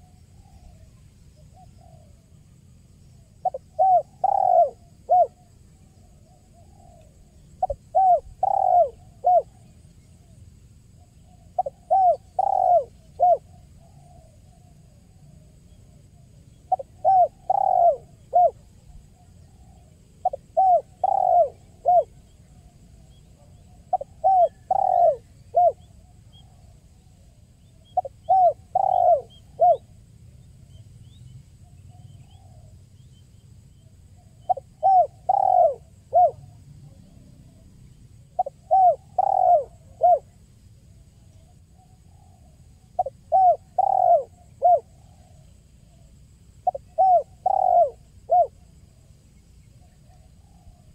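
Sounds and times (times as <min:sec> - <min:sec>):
dove cooing: 0:00.0 - 0:02.2, 0:03.2 - 0:09.7, 0:11.2 - 0:29.9, 0:31.9 - 0:32.8, 0:34.2 - 0:37.7, 0:38.3 - 0:40.4, 0:41.3 - 0:48.7, 0:49.8 - 0:50.9
faint low hum: 0:00.0 - 0:50.9.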